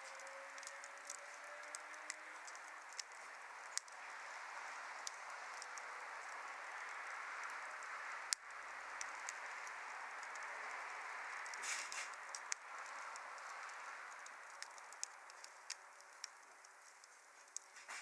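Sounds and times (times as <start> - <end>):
wood fire hissing and crackling: 0.0 - 18.0
sharp fire pops: 0.1 - 18.0.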